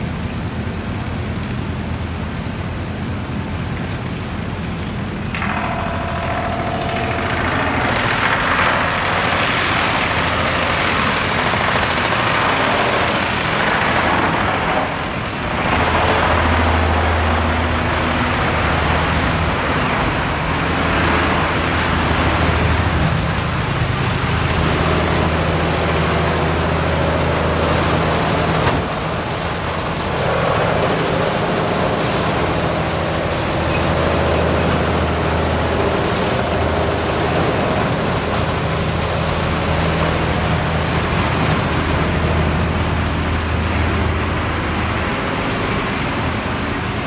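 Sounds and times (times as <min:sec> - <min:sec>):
low hum: 0:03.5 - 0:47.0
wood chipper running: 0:04.5 - 0:47.0.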